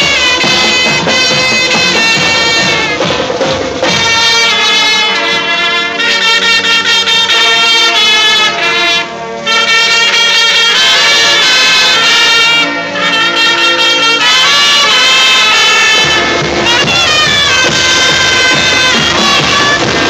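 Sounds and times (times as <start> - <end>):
brass horns: 0.0 - 20.0
drums: 0.0 - 20.0
marching band playing: 0.0 - 20.0.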